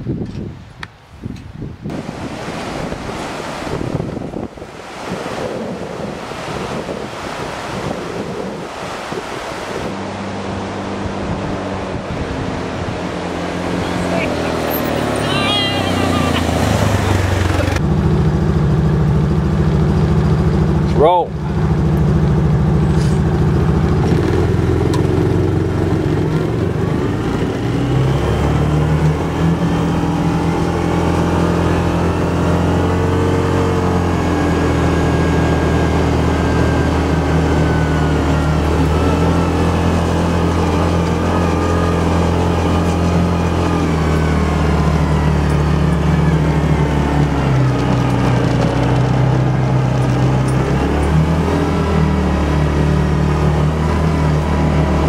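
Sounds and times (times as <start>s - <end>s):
off-road vehicle engine under load: 9.9s - 55.0s.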